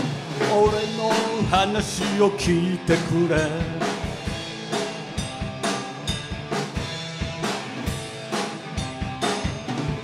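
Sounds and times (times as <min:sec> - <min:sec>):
drum kit beat: 0:00.0 - 0:10.0
electric guitar: 0:00.0 - 0:10.0
rock band playing: 0:00.0 - 0:10.0.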